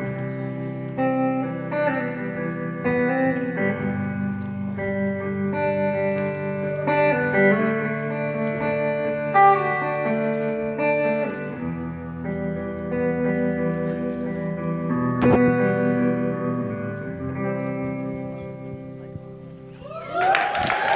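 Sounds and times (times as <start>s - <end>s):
acoustic guitar chords: 0.0s - 19.7s
hollow-body electric guitar: 0.0s - 20.9s.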